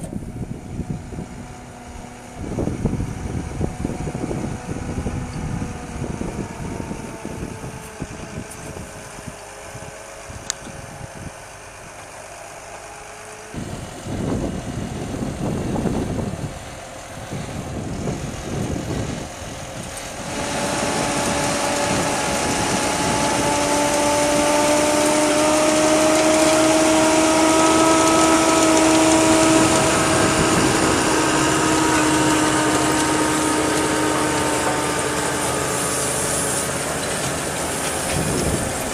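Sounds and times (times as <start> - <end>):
machinery whining: 0.0 - 38.9
tractor running: 0.0 - 38.9.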